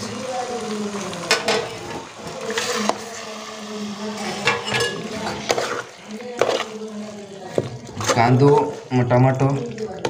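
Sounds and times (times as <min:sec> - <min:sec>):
ladle stirring in metal pot: 0:01.2 - 0:10.0.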